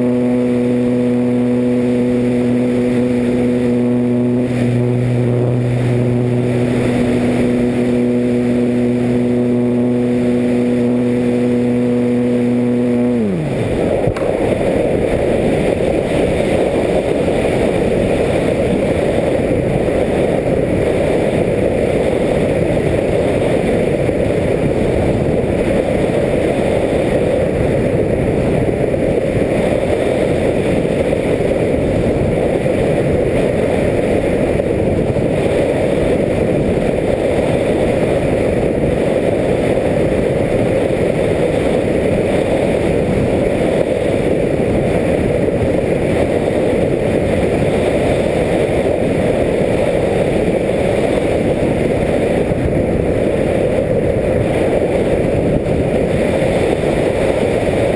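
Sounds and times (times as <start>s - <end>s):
rc airplane motor: 0.0s - 57.9s.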